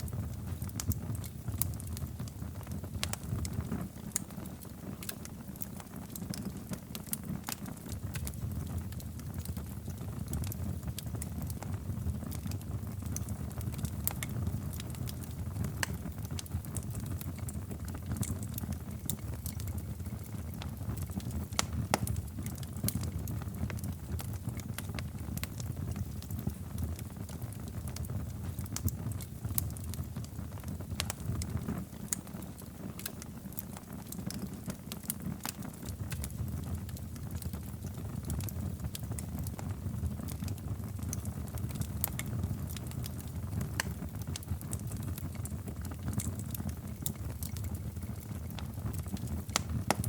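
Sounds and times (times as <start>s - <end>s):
fire crackling and popping: 0.0s - 50.0s
low rumble of flames: 0.0s - 50.0s.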